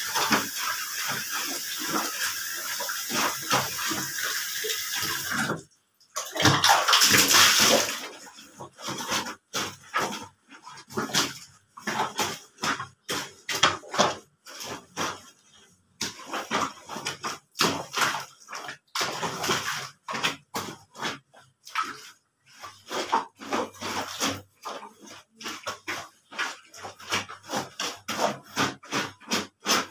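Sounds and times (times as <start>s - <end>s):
wet scrubbing of blanket: 0.0s - 5.5s, 6.7s - 29.9s.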